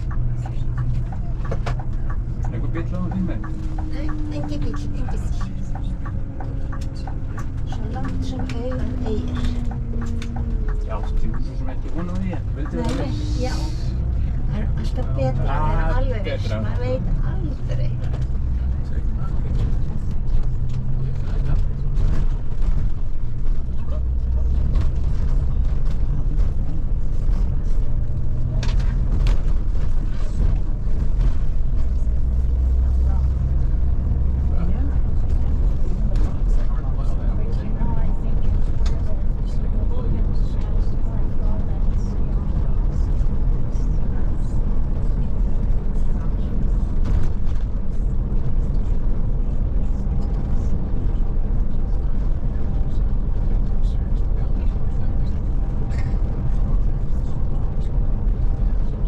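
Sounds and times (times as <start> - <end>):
coach engine and road rumble: 0.0 - 59.0.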